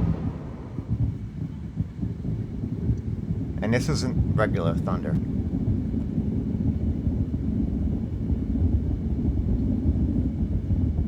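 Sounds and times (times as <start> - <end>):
long rolling thunder: 0.0 - 11.0.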